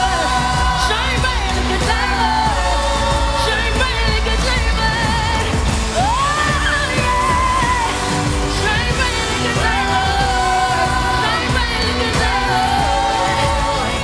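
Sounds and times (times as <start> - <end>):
person singing with vibrato: 0.0 - 14.0
pop band with steady beat: 0.0 - 14.0.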